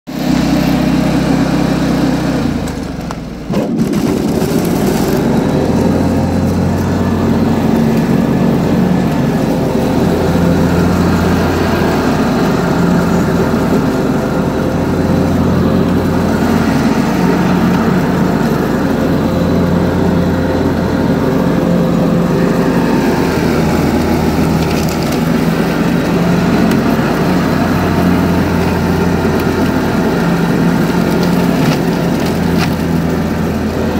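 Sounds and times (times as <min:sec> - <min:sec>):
garden tractor engine running: 0:00.1 - 0:33.9
mower deck cutting grass: 0:00.1 - 0:33.9.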